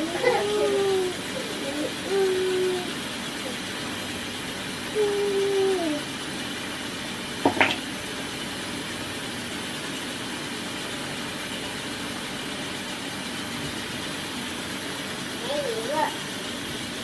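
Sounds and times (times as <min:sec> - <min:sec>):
kitchen hiss and hum: 0:00.0 - 0:17.0.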